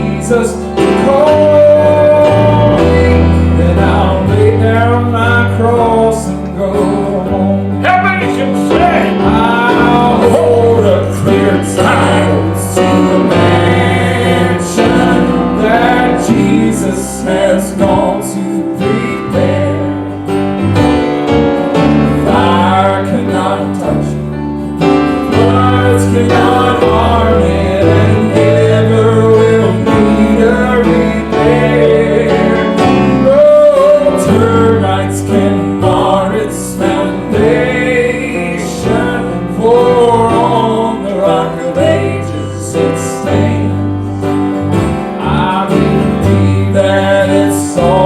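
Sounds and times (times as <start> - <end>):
man singing gospel: 0.0 - 20.5, 21.9 - 48.0
instrumental accompaniment: 0.0 - 48.0.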